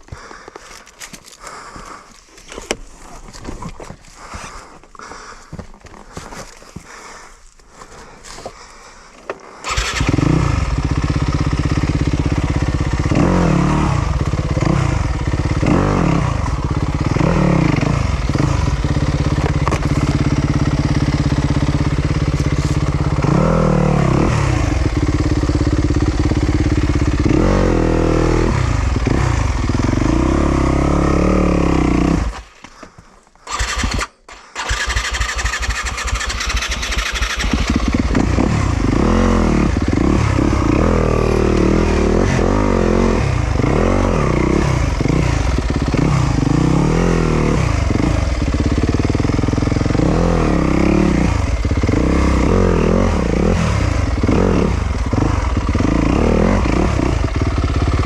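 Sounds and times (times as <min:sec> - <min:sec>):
dirt bike engine revving: 0:09.6 - 0:32.4, 0:33.5 - 0:58.0.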